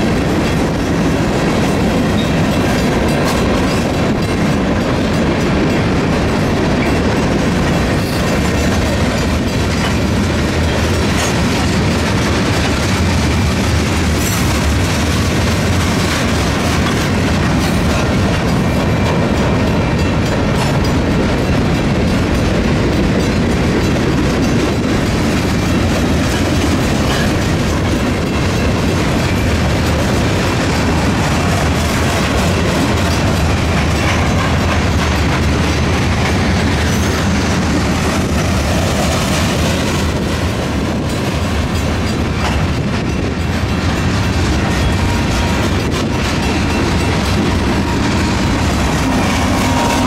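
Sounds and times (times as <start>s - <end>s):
train wheels rumbling on rails: 0.0s - 50.0s
wheels clanking over rail joints: 0.0s - 50.0s.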